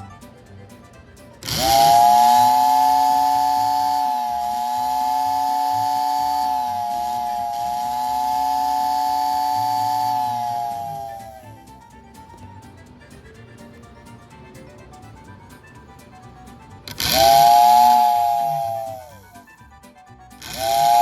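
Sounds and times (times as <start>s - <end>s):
toy whistle chord: 0.0s - 12.8s, 13.4s - 21.0s
low motor hum: 0.0s - 19.4s.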